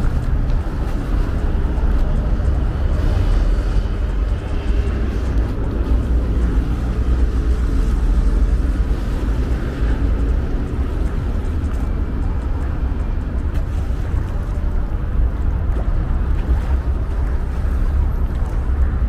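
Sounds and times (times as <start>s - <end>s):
city traffic: 0.0s - 19.0s
wind buffeting microphone: 0.0s - 19.0s.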